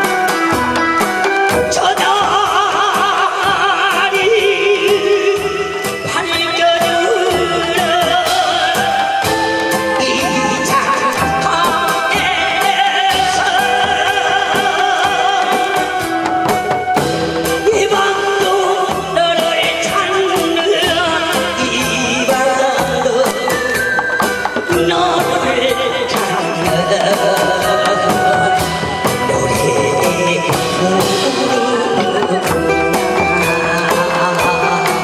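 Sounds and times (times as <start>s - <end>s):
amplified accompaniment with drum beat: 0.0s - 35.0s
person singing with vibrato: 0.0s - 35.0s.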